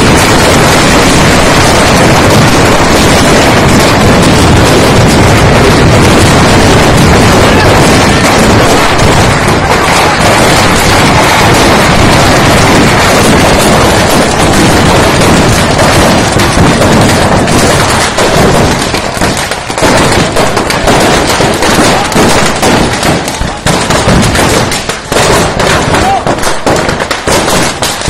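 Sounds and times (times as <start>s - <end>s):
firecrackers exploding: 0.0s - 28.0s.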